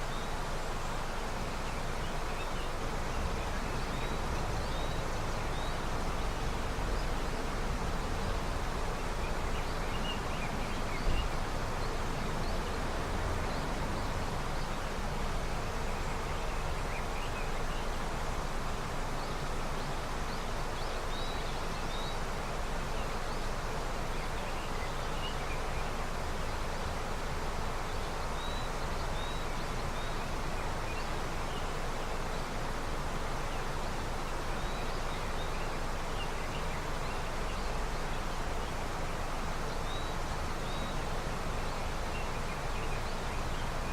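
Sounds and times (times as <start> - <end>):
river running: 0.0 - 43.9.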